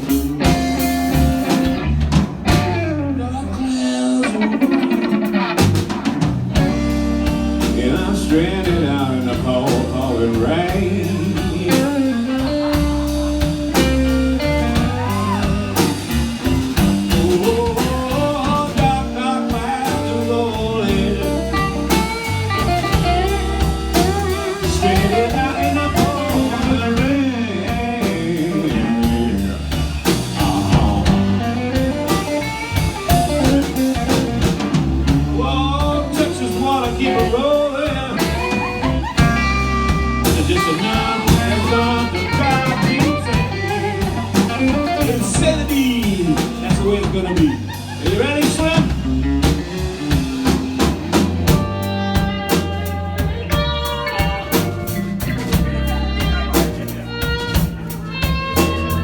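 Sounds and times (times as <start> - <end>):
blues band playing: 0.0 - 59.0
lead guitar bending notes: 0.0 - 59.0.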